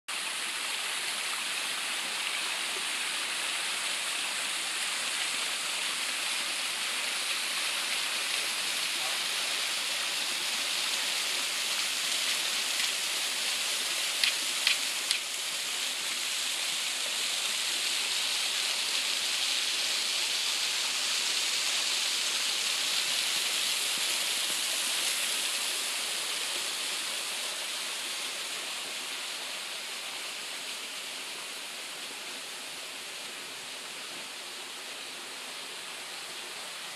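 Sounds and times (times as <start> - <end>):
small waterfall rushing over rocks: 0.1 - 36.9.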